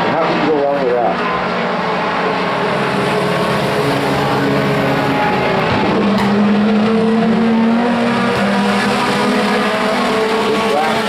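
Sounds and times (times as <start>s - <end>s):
race truck engines: 0.0s - 11.0s.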